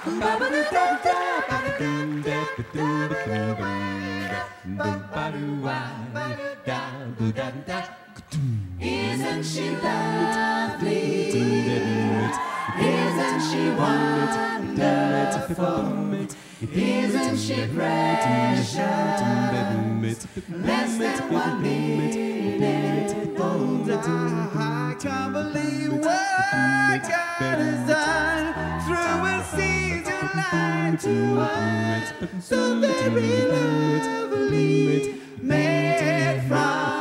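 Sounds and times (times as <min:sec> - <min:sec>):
a cappella group singing in harmony: 0:00.0 - 0:37.0.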